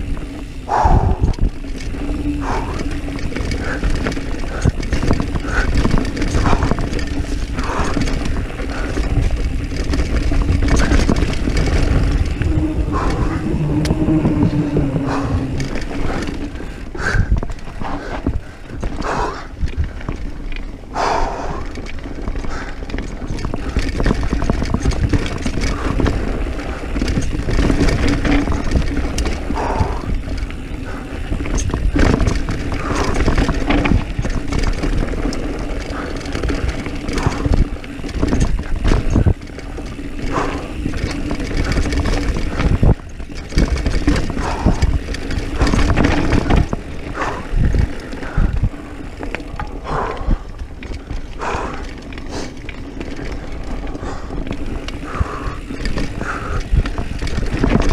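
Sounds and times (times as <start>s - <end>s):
bike rattling and knocking: 0.0s - 57.9s
bike tyres rumbling on dirt: 0.0s - 57.9s
wind buffeting microphone: 0.0s - 57.9s.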